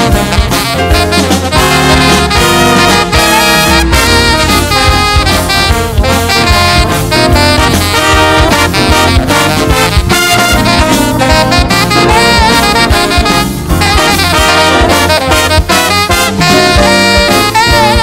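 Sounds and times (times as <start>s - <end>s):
big band swing jazz: 0.0s - 18.0s.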